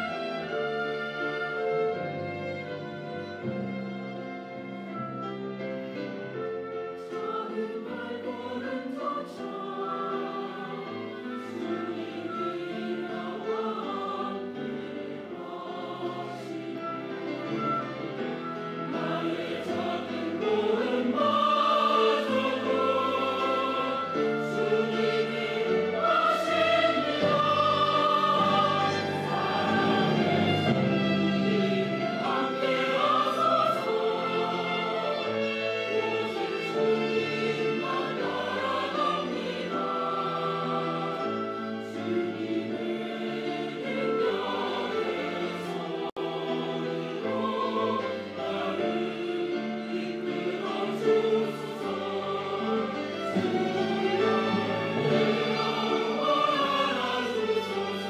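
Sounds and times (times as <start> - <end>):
choir singing a hymn: 0.0 - 58.0
instrumental accompaniment: 0.0 - 58.0.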